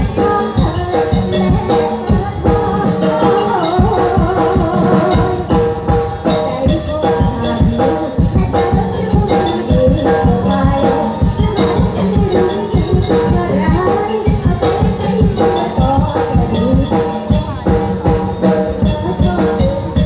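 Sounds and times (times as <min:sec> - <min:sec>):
held melody line: 0:00.0 - 0:20.0
steady percussion beat: 0:00.0 - 0:20.0.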